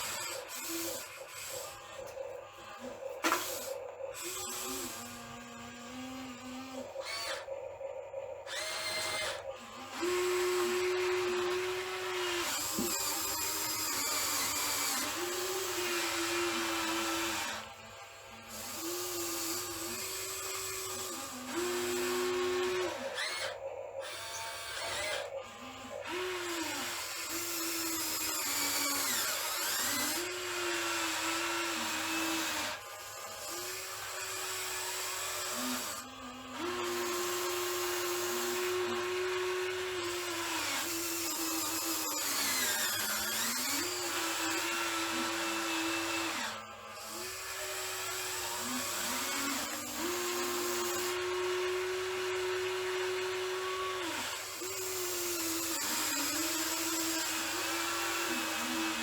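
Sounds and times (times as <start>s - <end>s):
small electric motors whining: 0.0s - 59.0s.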